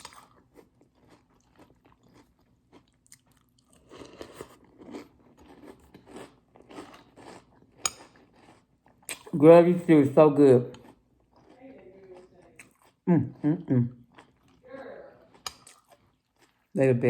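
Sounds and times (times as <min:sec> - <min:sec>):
crunchy cereal chewing: 0:00.0 - 0:09.4, 0:10.6 - 0:16.8.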